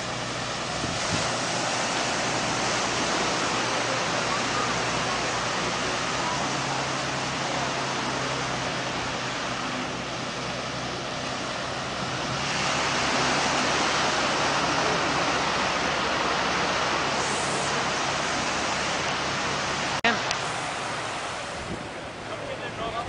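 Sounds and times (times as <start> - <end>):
wind noise: 0.0 - 6.7, 11.0 - 23.0
diesel engine running: 0.0 - 23.0
surf: 0.0 - 23.0.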